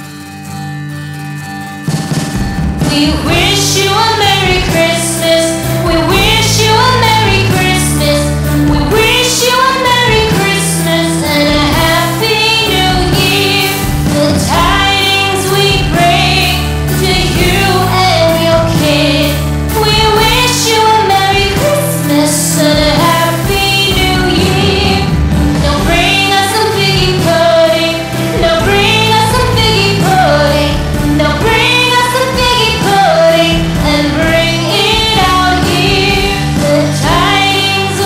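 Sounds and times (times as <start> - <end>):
held bass notes: 0.0 - 38.0
song with singing voices: 2.8 - 38.0.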